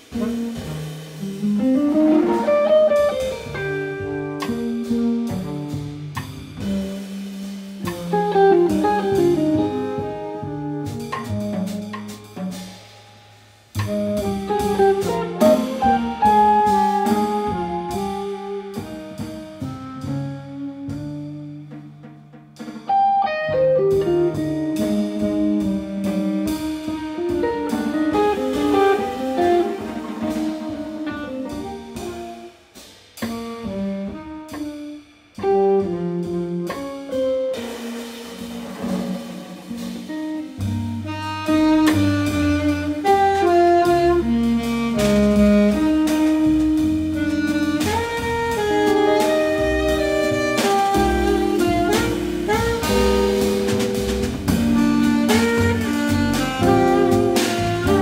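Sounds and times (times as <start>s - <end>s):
double bass: 0.0s - 58.0s
drums: 0.0s - 58.0s
saxophone: 1.5s - 5.8s, 7.8s - 12.7s, 13.8s - 21.7s, 22.9s - 32.6s, 33.2s - 58.0s.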